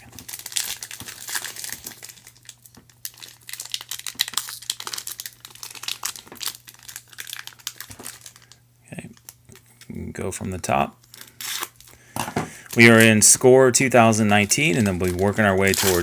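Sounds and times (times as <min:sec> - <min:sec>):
foil wrapper crinkling: 0:00.0 - 0:09.6, 0:11.0 - 0:16.0.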